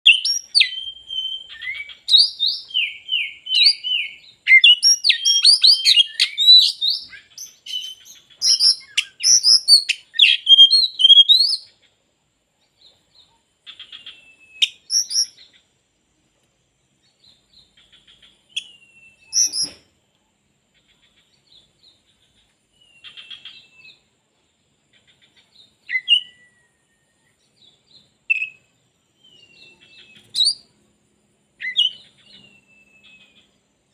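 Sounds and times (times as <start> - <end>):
bird singing: 0.0 - 33.9.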